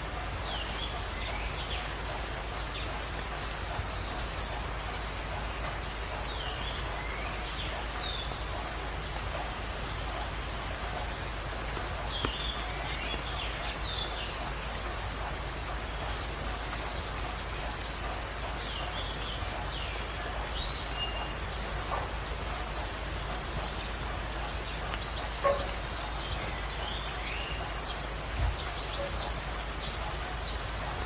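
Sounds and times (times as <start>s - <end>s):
running water hiss: 0.0s - 31.0s.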